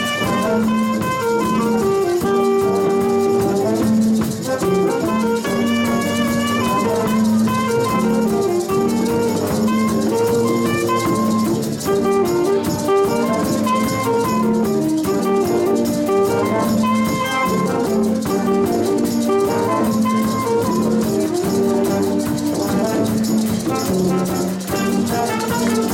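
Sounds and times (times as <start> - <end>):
drum kit cymbals: 0.0 - 25.9
jazz band playing: 0.0 - 25.9
saxophones: 0.0 - 25.9.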